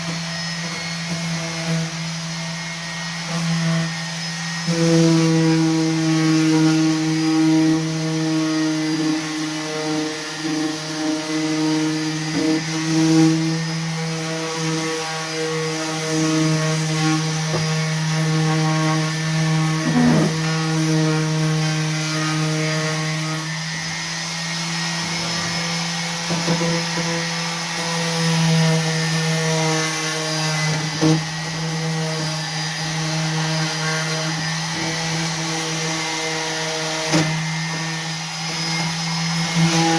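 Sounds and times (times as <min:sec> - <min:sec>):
orbital sander sanding wood: 0:00.0 - 0:39.9.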